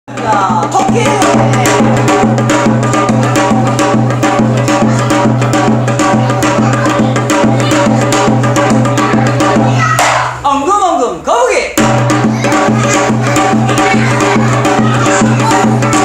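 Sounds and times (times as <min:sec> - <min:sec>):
upbeat music with quick percussion: 0:00.1 - 0:10.4, 0:11.8 - 0:16.0.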